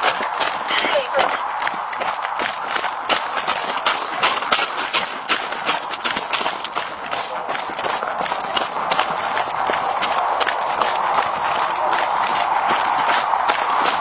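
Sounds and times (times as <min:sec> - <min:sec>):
camera and gear jostling: 0:00.0 - 0:14.0
running footsteps on grass: 0:00.0 - 0:14.0.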